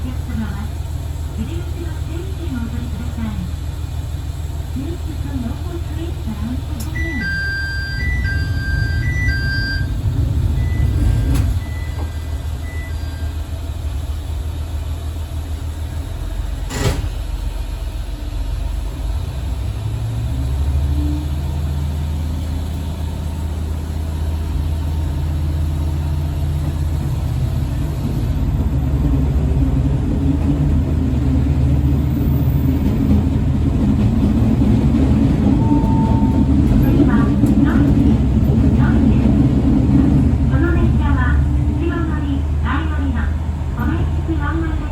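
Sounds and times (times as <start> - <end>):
diesel railcar engine revving: 0.0 - 44.9.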